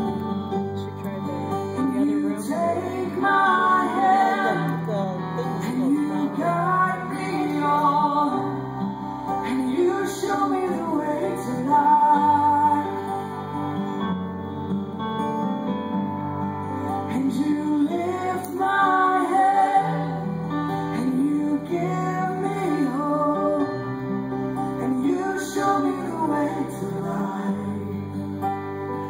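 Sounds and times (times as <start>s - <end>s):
live band with electric guitars: 0.0s - 29.0s
woman singing lead: 1.7s - 13.8s, 17.0s - 28.7s.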